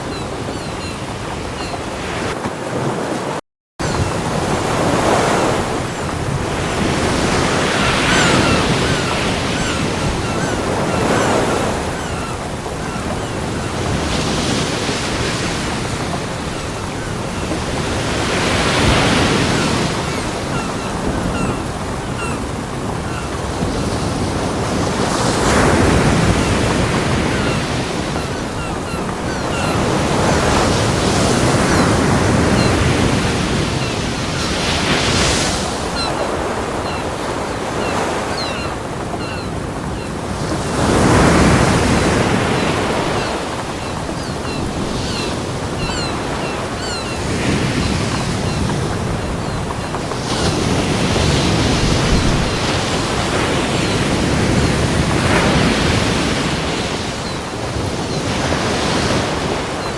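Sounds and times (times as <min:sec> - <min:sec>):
ocean waves breaking on a beach: 0:00.0 - 0:59.9.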